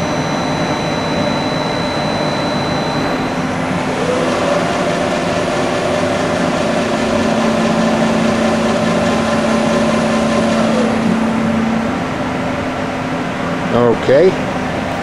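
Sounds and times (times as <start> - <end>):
mill machine whine: 0.0 - 15.0.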